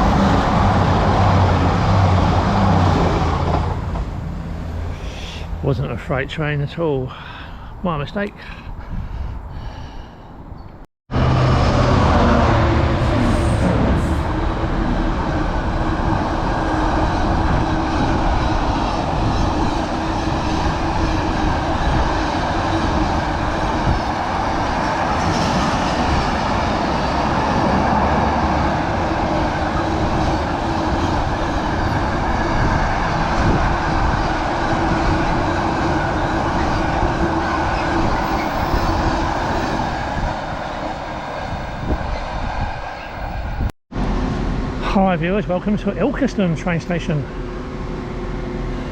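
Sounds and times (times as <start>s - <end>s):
diesel train rumbling: 0.0s - 48.9s.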